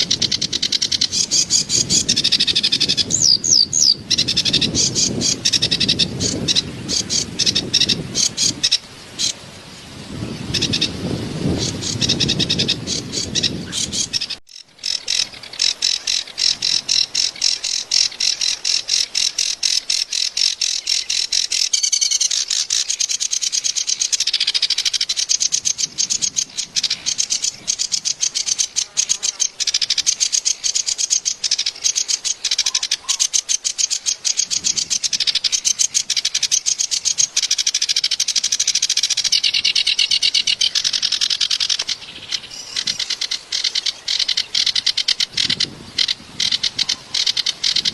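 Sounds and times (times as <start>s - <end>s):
warbler singing harsh song: 0.0s - 9.4s, 10.1s - 47.9s.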